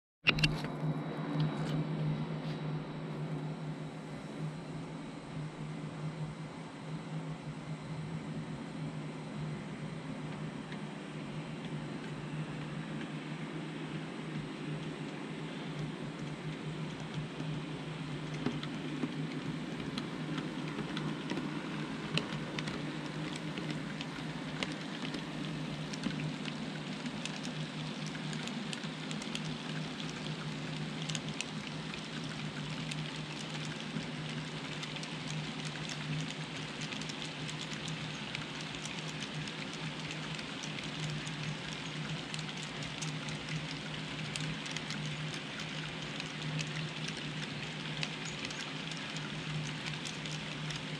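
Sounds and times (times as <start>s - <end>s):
steady low hum: 0.3s - 50.9s.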